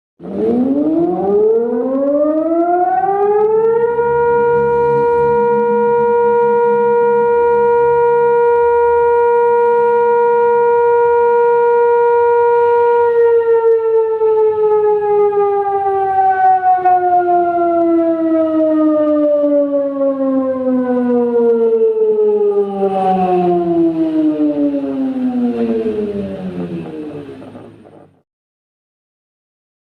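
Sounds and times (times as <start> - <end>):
siren wailing: 0.2 - 28.2.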